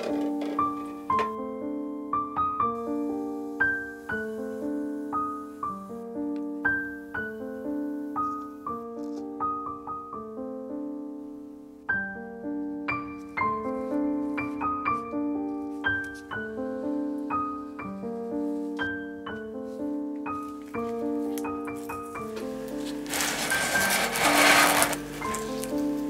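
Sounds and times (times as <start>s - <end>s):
piano single notes: 0.0s - 26.0s.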